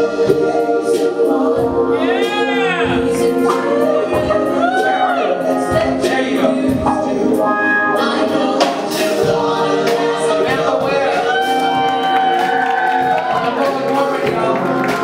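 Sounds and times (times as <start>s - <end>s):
live band music: 0.0s - 15.0s
voices singing wavering notes: 0.0s - 15.0s.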